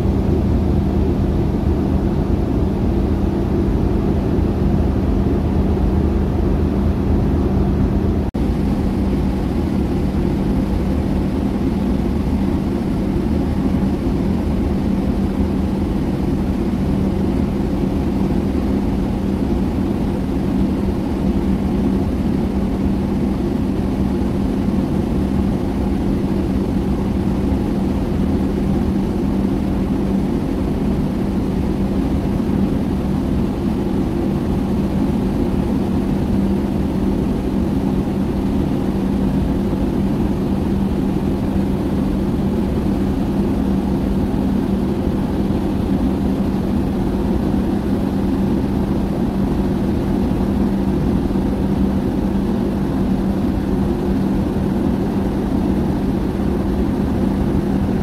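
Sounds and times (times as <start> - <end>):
ship engine drone: 0.0 - 58.0.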